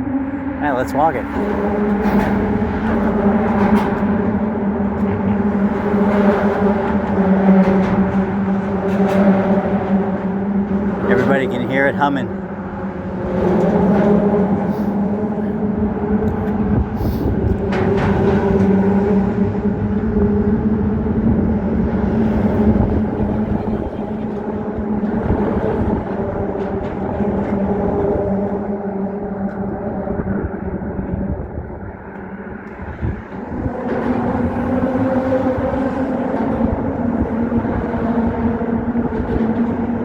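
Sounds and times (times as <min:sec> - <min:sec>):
car tyres humming on steel grid: 0:00.0 - 0:40.0.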